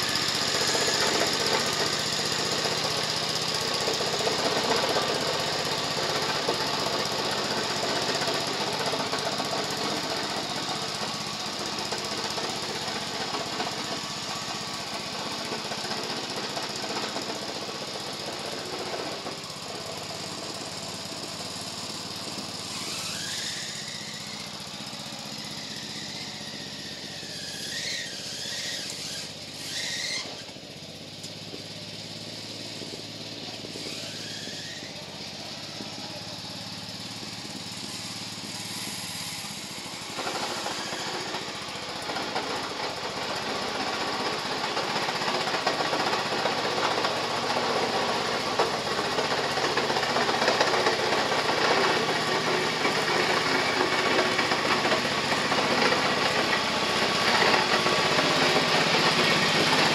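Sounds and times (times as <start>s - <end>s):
ride-on mower engine running: 0.0s - 59.9s.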